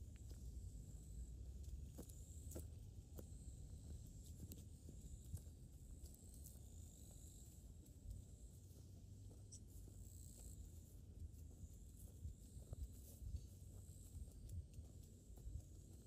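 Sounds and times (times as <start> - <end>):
faint high-pitched whine: 0.0 - 16.0
footsteps on trail: 0.0 - 16.0.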